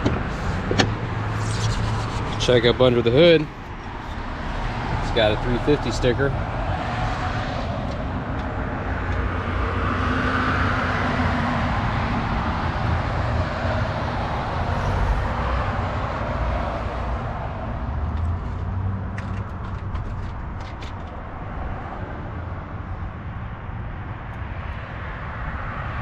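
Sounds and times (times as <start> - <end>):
low engine hum: 0.0 - 25.8
road traffic rumble: 0.0 - 26.0.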